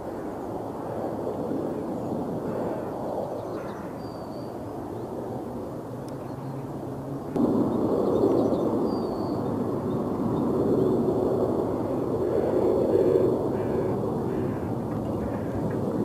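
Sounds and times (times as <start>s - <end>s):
airliner rumble on approach: 0.0s - 16.0s
distant jet engine roar: 0.0s - 16.0s.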